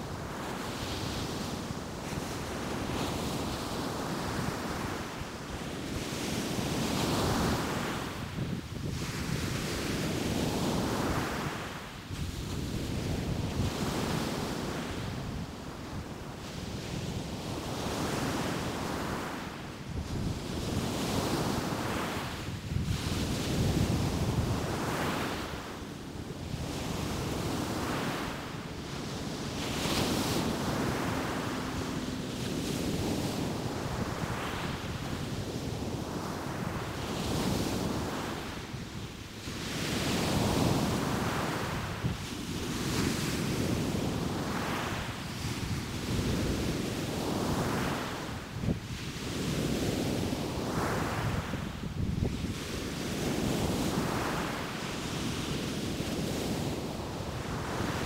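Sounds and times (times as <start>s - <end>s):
ocean surf breaking on beach: 0.0s - 58.0s
wind rumbling on microphone: 0.0s - 58.0s.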